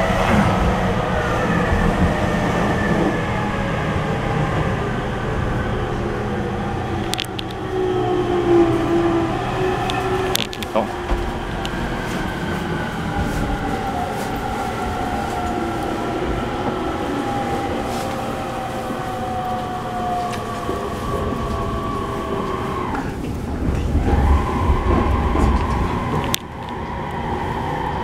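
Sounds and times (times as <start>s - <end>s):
electric train inverter whine: 0.0s - 28.0s
wheels rumbling on rail: 0.0s - 28.0s.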